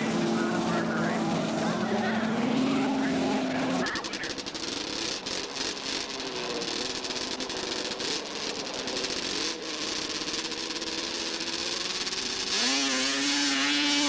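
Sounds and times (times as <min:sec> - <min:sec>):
distant snowmobile engines: 0:00.0 - 0:14.0
loud snowmobile engine: 0:00.0 - 0:14.0.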